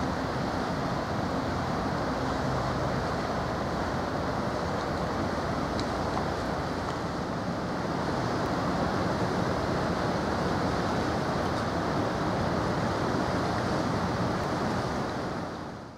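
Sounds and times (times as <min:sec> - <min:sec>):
waves on open water: 0:00.0 - 0:15.9.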